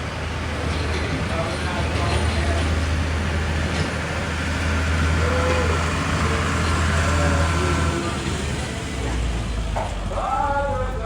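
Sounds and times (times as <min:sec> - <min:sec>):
large engine droning: 0:00.0 - 0:11.0.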